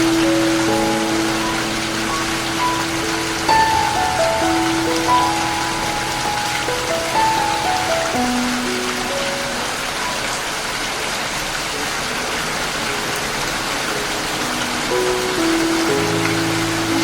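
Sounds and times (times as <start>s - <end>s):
soft musical notes: 0.0s - 10.0s, 13.0s - 17.0s
heavy rain hissing: 0.0s - 17.0s.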